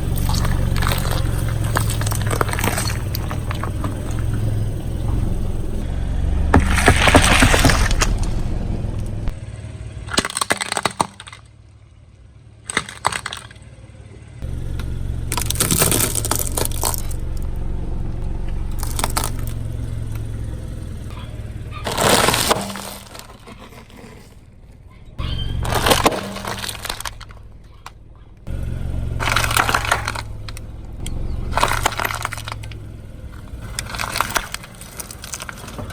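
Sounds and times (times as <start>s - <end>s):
tyre crushing brittle objects: 0.0s - 5.8s, 6.5s - 9.4s, 10.0s - 11.5s, 12.7s - 13.6s, 14.7s - 17.6s, 18.6s - 20.3s, 21.1s - 24.5s, 25.2s - 27.9s, 28.5s - 35.9s
car engine running: 0.0s - 35.9s.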